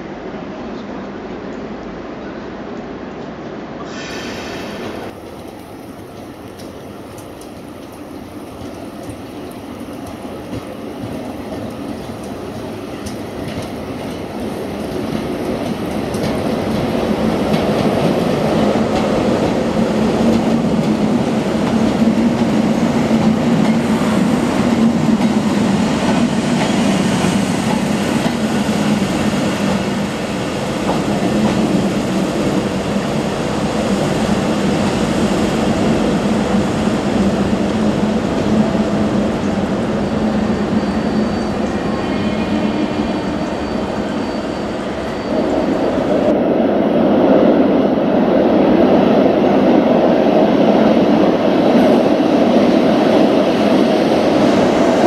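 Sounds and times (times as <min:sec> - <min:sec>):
electric locomotives passing: 0:00.0 - 0:55.0.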